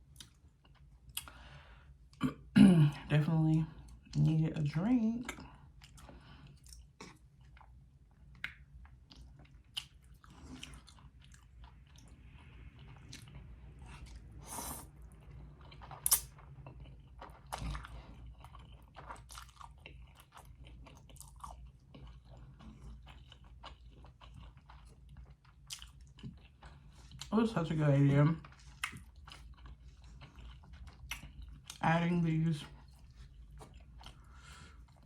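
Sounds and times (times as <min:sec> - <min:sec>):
person chewing food: 0:00.0 - 0:02.5, 0:05.3 - 0:27.3, 0:28.1 - 0:35.0.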